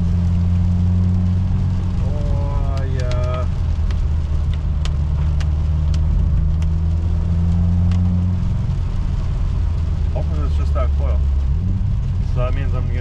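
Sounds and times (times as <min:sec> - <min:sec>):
car engine: 0:00.0 - 0:13.0
road noise: 0:00.0 - 0:13.0.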